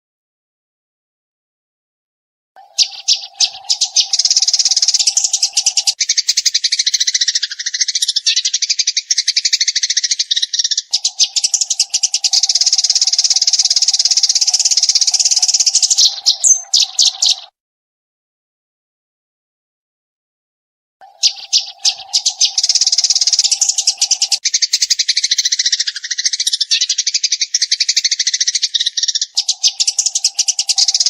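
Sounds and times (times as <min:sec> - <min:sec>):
sparrow chirping rapidly: 0:02.6 - 0:17.5, 0:21.0 - 0:31.0.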